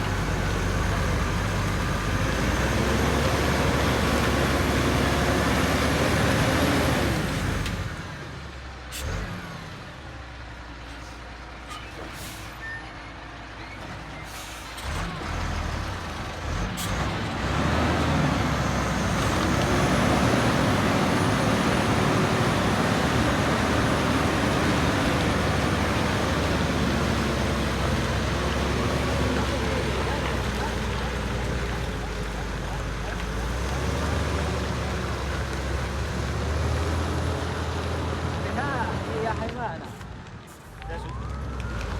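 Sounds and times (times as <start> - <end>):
heavy truck engine running: 0.0 - 41.9.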